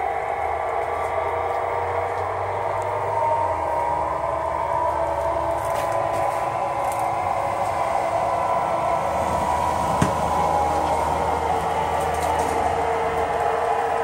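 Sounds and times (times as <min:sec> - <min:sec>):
model locomotive diesel engine sound: 0:00.0 - 0:14.0.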